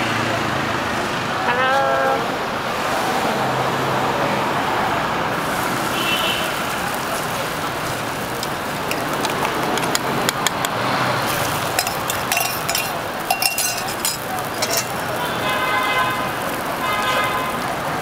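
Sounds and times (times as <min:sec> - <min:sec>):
roadside traffic noise: 0:00.0 - 0:18.0.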